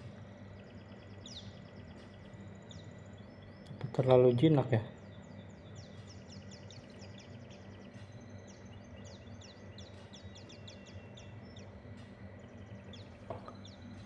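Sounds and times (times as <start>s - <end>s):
faint steady hum: 0.0s - 14.0s
small songbirds chirping: 0.0s - 14.0s.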